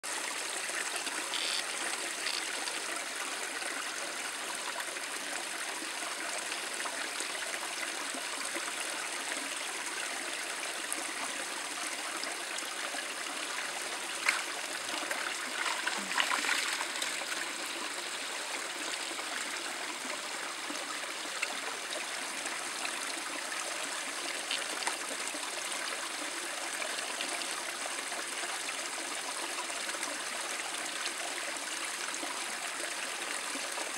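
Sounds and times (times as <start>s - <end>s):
running water stream: 0.0s - 33.9s.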